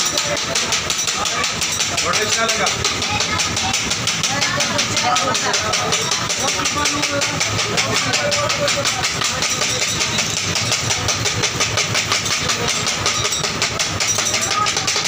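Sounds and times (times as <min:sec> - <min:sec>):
metal spatulas striking a griddle: 0:00.0 - 0:15.0.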